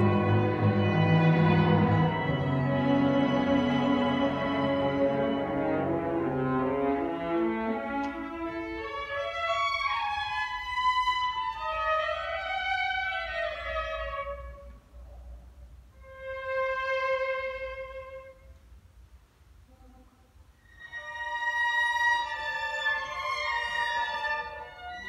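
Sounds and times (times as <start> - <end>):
string orchestra playing: 0.0 - 14.8, 15.9 - 18.6, 19.7 - 25.0.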